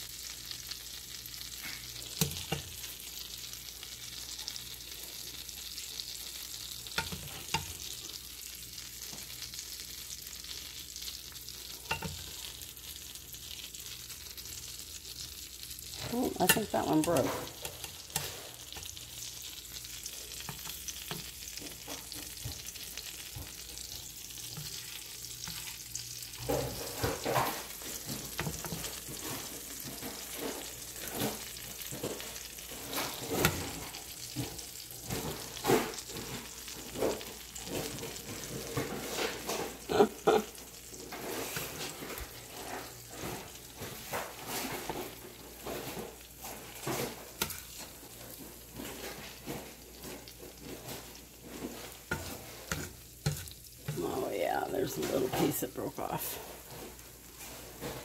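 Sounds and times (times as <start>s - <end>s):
bacon frying in oil: 0.0s - 58.0s.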